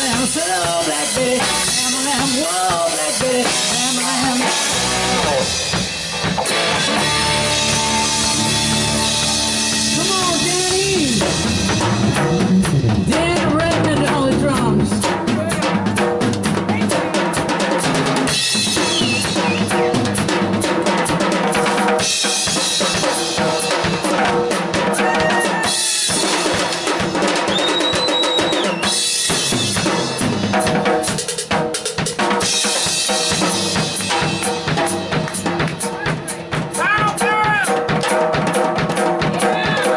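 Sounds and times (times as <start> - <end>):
drum solo: 0.0 - 39.9
rock band playing: 0.0 - 39.9.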